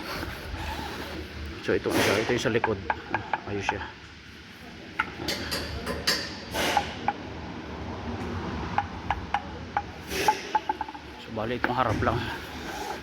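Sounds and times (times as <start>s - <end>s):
low workshop rumble: 0.0s - 13.0s.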